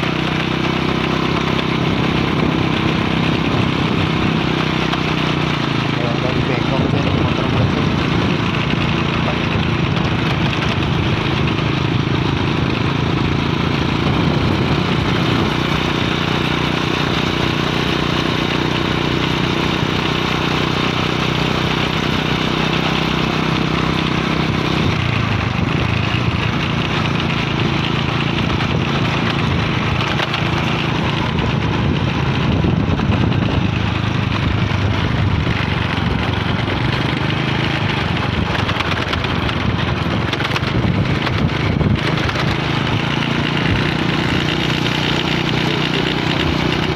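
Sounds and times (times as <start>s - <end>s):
small motorcycle engine running: 0.0s - 46.9s.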